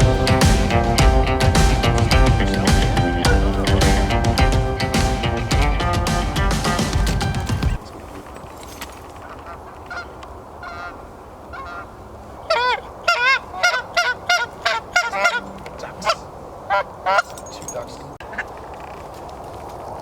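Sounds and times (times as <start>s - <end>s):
geese honking: 0.0s - 8.0s, 9.2s - 18.5s.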